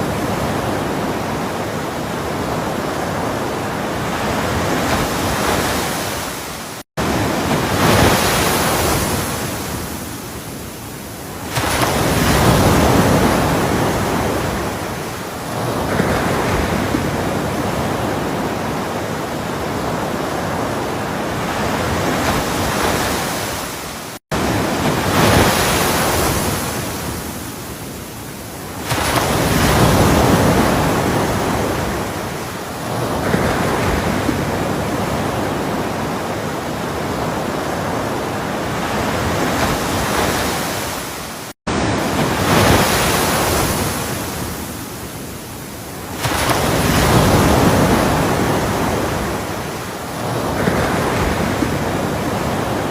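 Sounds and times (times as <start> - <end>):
ocean waves washing up shore: 0.0 - 52.9.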